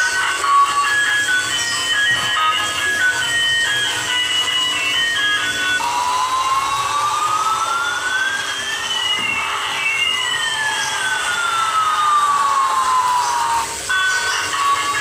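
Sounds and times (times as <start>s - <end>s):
falling electronic tone: 0.0s - 15.0s
toy jet engine whine: 0.0s - 15.0s.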